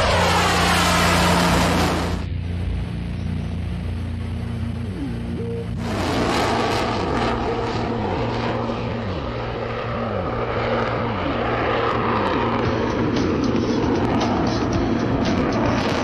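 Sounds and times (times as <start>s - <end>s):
jet engines roaring in flight: 0.0s - 16.0s.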